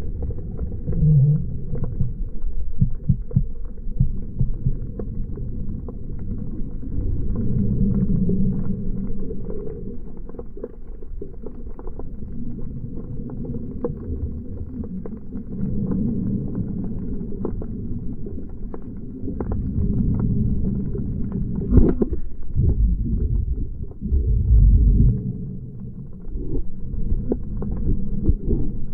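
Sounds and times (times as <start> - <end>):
muffled underwater rumble: 0.0 - 28.9.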